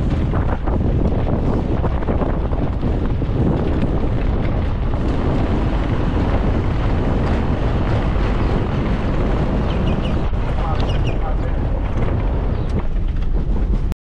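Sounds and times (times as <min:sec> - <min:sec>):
car road noise: 0:00.0 - 0:14.0
wind buffeting microphone: 0:00.0 - 0:14.0.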